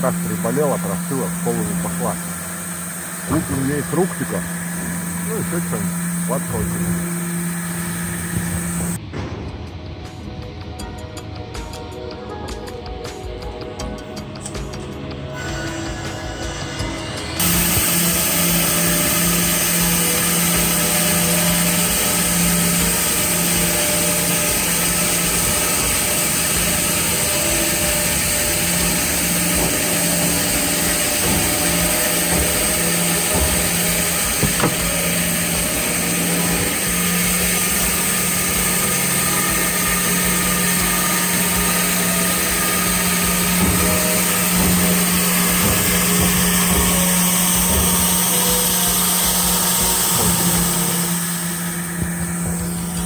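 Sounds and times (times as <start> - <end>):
motor hum: 0.0 - 53.0.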